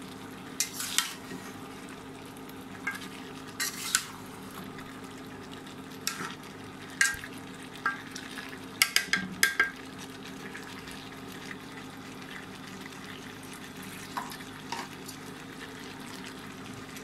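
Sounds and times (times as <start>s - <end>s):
food frying faintly: 0.0s - 17.0s.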